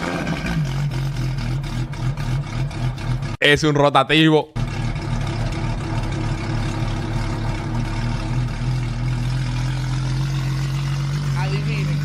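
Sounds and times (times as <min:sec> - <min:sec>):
car engine idling: 0:00.1 - 0:03.4, 0:04.6 - 0:12.0.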